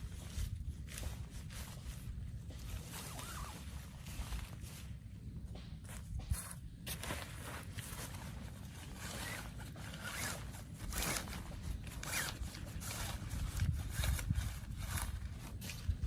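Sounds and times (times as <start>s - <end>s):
rustling and scraping strokes: 0.0s - 16.0s.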